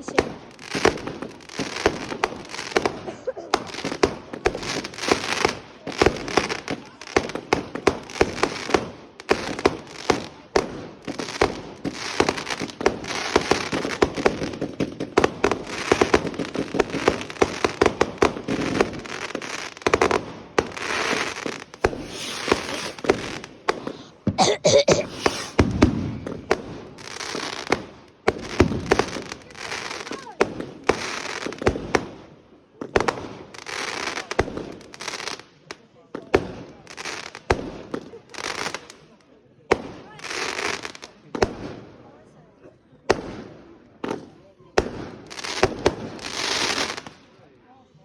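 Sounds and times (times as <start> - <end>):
fireworks bangs: 0.0 - 35.4, 43.1 - 47.4
fireworks crackling: 0.0 - 41.8, 43.1 - 47.4.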